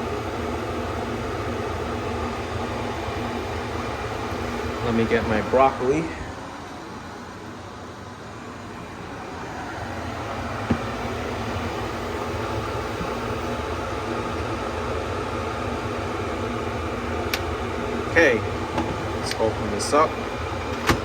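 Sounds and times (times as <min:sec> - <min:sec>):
steady fan whooshing: 0:00.0 - 0:21.0.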